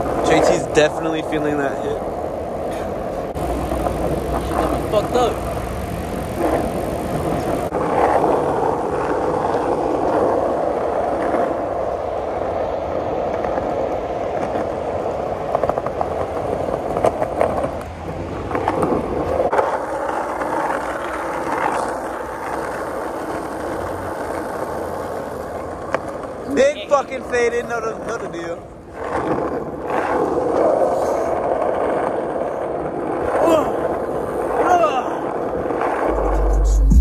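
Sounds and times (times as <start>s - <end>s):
bicycle tyres on asphalt: 0.0s - 37.0s.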